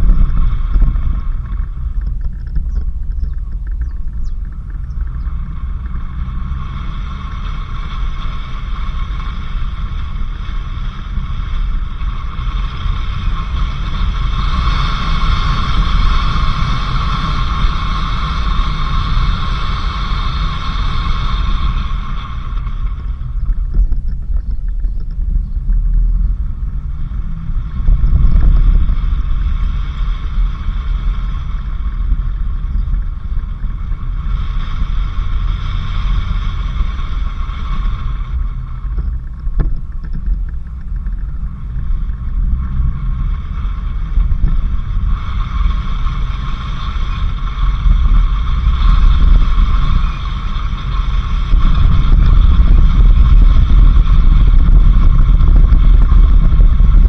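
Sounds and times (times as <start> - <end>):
high steady hum: 0.0 - 57.0
vehicle driving on dirt road: 0.0 - 57.0.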